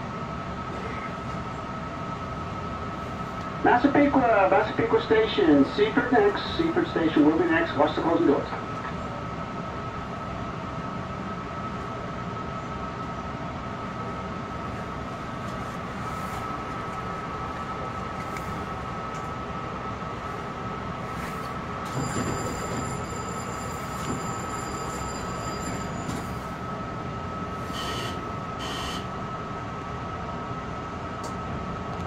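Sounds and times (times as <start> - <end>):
train equipment hum: 0.0 - 32.0
train rumble pulling away: 0.0 - 32.0.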